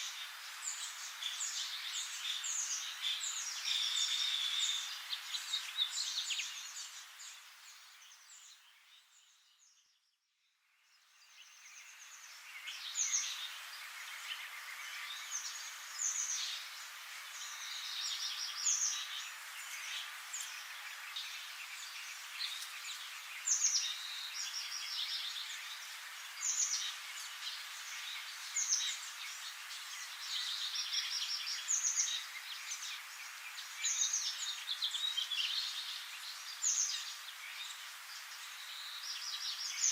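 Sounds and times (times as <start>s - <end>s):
steady hiss: 0.0s - 9.2s, 10.8s - 39.9s.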